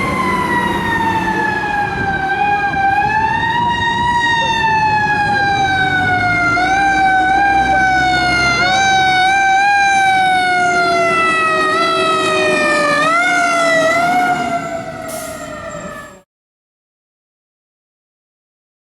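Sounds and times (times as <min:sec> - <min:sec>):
truck engine rumble: 0:00.0 - 0:16.2
fire engine siren wailing: 0:00.0 - 0:16.3.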